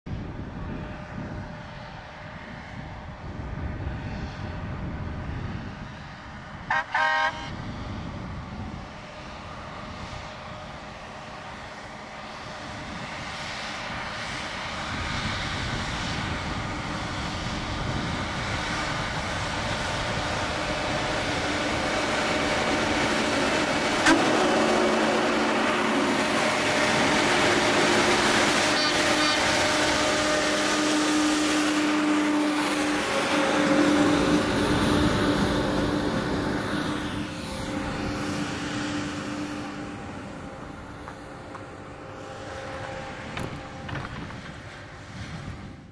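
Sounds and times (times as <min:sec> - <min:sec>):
diesel track machines running: 0:00.1 - 0:45.9.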